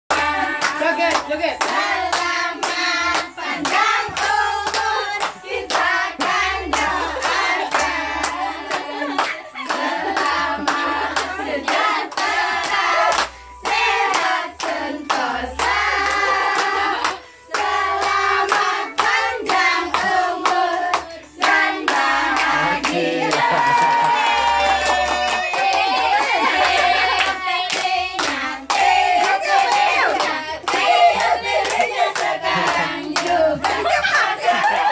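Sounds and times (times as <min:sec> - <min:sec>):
group clapping in rhythm: 0:00.1 - 0:34.9
group singing: 0:00.1 - 0:34.9.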